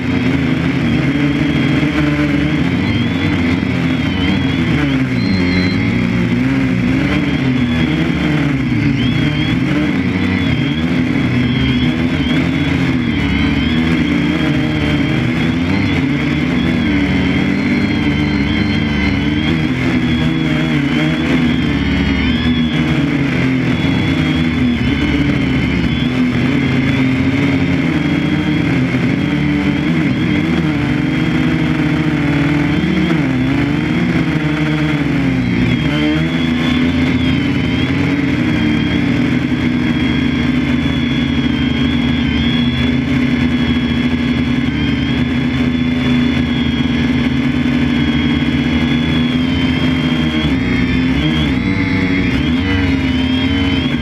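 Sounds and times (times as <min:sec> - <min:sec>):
motor running: 0:00.0 - 0:54.0.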